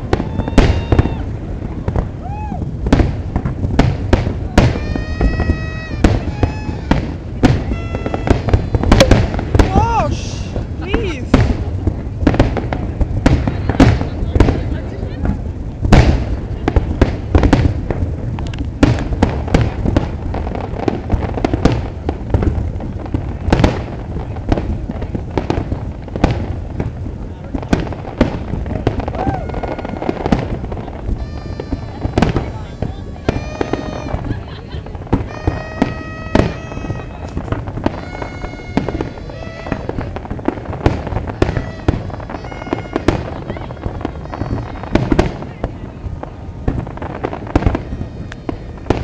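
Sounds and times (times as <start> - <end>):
fireworks booming with echo: 0.0 - 49.0
fireworks cracking and popping: 0.0 - 49.0.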